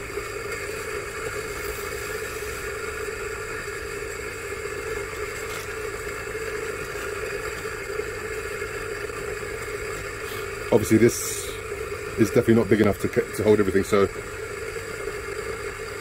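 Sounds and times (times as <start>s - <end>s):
electric coffee grinder running: 0.0s - 16.0s.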